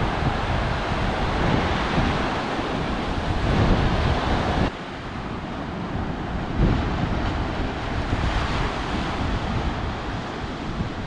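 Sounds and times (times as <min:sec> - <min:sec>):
surf washing onto beach: 0:00.0 - 0:11.0
wind buffeting microphone: 0:00.0 - 0:11.0.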